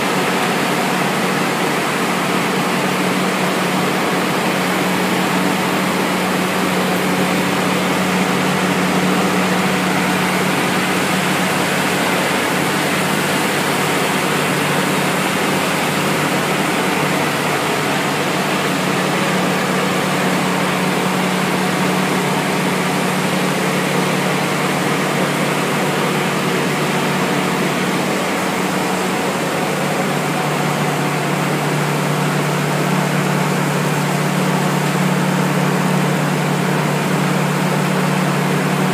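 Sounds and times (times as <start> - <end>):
machinery drone: 2.2 - 38.9.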